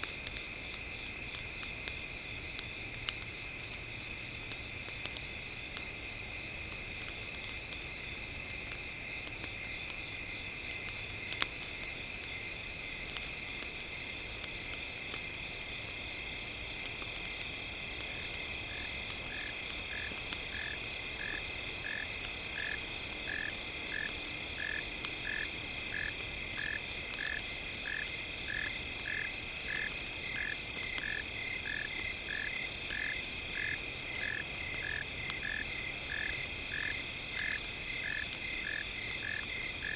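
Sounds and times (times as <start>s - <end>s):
campfire crackling: 0.0s - 39.9s
high insect chorus: 0.0s - 39.9s.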